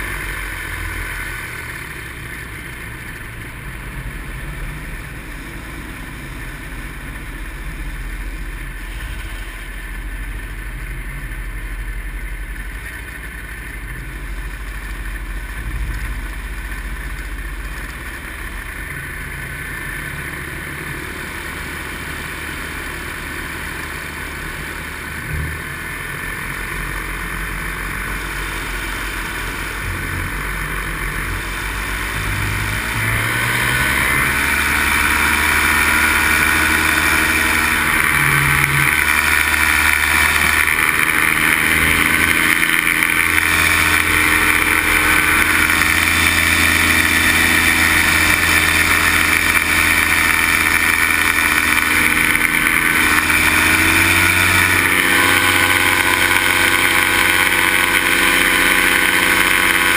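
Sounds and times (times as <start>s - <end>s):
paramotor engine running: 0.0s - 59.9s.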